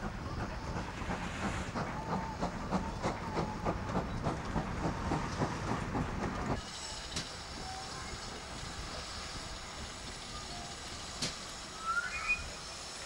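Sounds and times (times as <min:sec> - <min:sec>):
outdoor background noise: 0:00.0 - 0:13.0
steam locomotive hissing: 0:00.0 - 0:13.0.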